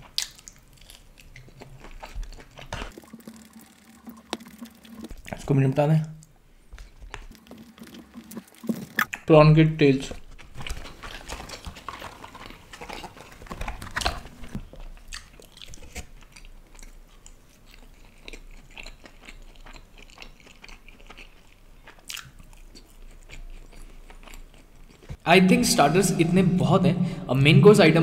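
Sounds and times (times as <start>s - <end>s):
biting and chewing: 0.0s - 5.3s, 6.2s - 9.2s, 10.1s - 25.2s.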